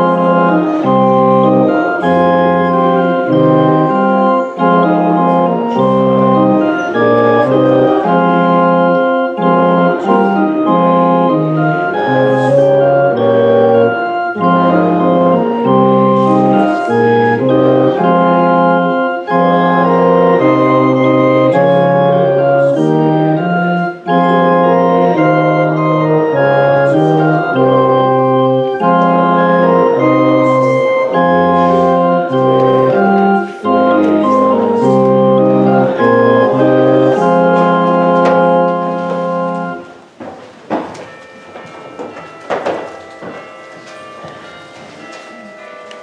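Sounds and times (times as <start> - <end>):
church organ playing chords: 0.0 - 46.0.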